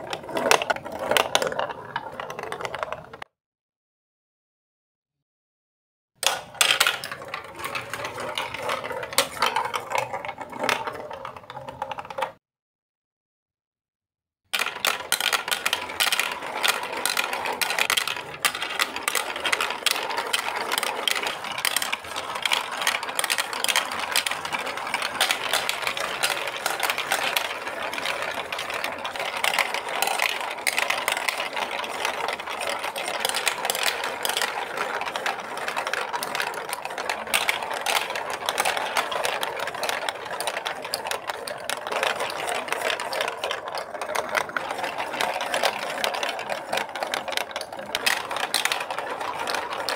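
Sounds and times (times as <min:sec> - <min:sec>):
plastic balls rattling down marble run: 0:00.0 - 0:03.3, 0:06.2 - 0:12.4, 0:14.5 - 0:49.9.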